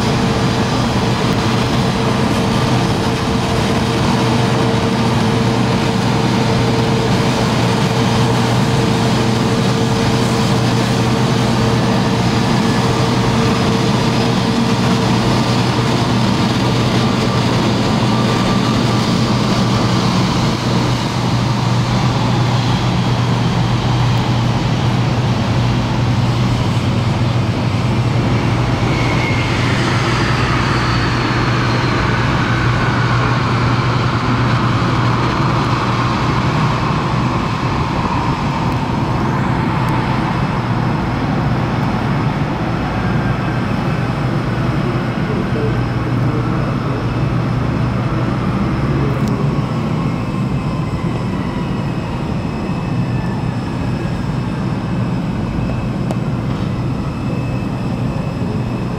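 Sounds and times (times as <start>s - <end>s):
jet engines humming: 0.0s - 58.9s.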